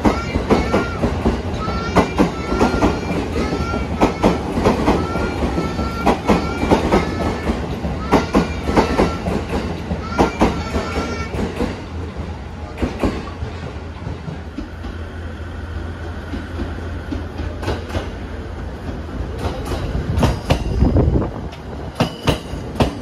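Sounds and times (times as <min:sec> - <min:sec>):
train wheels clickety-clack: 0:00.0 - 0:15.3, 0:15.9 - 0:23.0.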